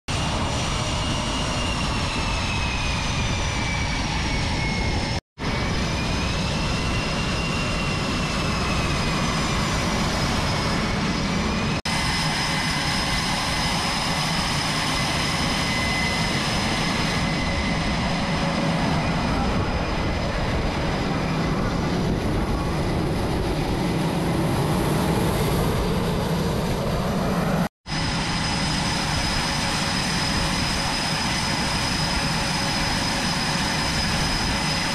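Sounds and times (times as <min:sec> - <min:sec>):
jet engines rushing and whining: 0:00.1 - 0:34.9.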